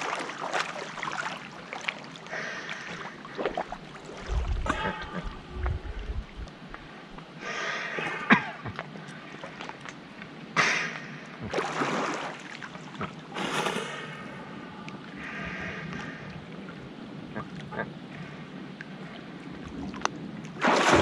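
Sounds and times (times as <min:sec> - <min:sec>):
steady water noise: 0:00.0 - 0:21.0
water splashing and sloshing: 0:00.0 - 0:21.0.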